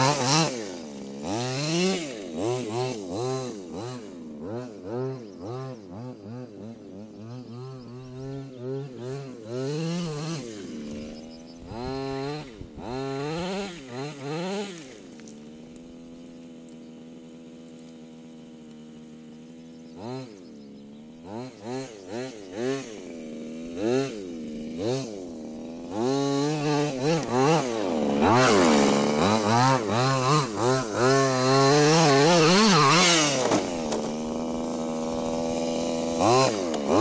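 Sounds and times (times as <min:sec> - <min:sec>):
small two-stroke engine revving: 0:00.0 - 0:37.0.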